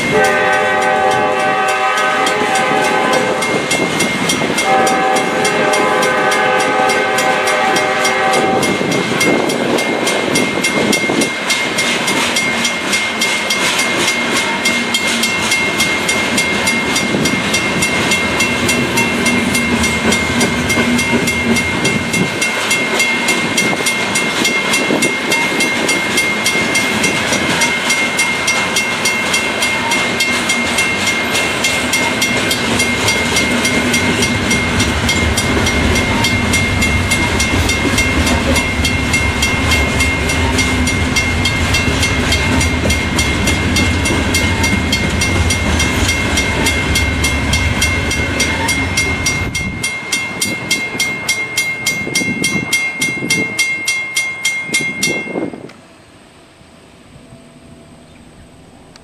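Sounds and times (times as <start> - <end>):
crossing bell ringing: 0.0 - 55.7
train wheels rumbling on rails: 0.0 - 59.0.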